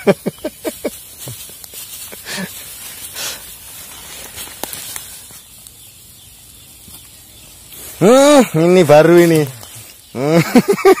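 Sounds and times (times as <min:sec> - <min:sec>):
charcoal fire hissing: 0:00.0 - 0:11.0
sharp fire crackles: 0:00.3 - 0:10.2.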